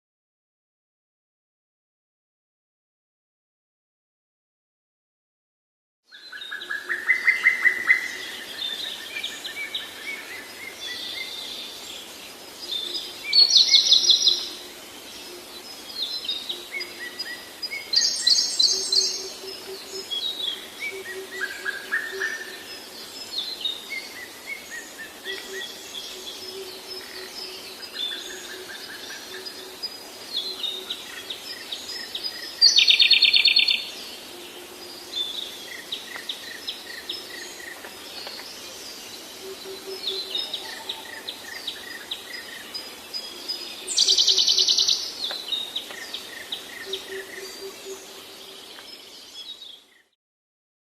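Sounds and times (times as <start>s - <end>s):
songbirds singing: 6.1s - 50.2s.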